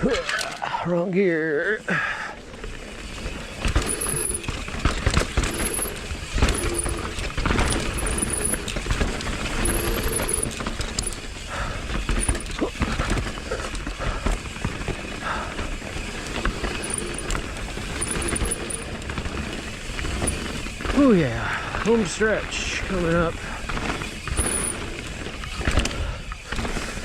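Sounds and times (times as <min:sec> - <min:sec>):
bike tyres on dirt and rock: 0:00.0 - 0:27.0
bike rattling over bumps: 0:02.4 - 0:27.0.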